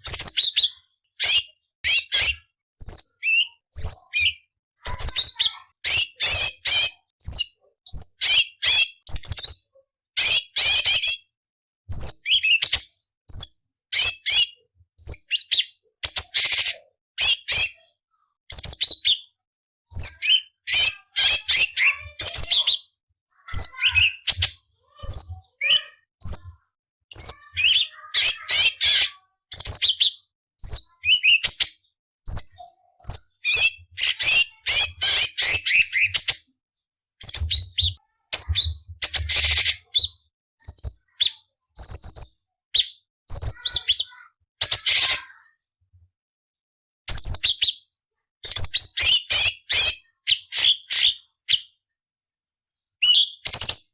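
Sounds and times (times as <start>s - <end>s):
bird singing chirps and rasps: 0.0s - 36.5s, 37.2s - 45.2s, 47.1s - 51.8s, 53.0s - 53.9s.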